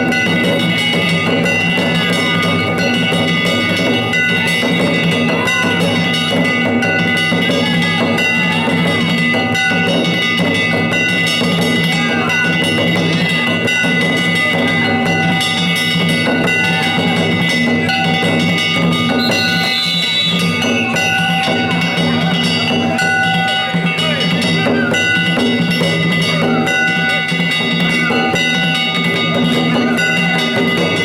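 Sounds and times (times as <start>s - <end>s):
hand gongs ringing: 0.0s - 31.0s
taiko drum: 0.0s - 31.0s.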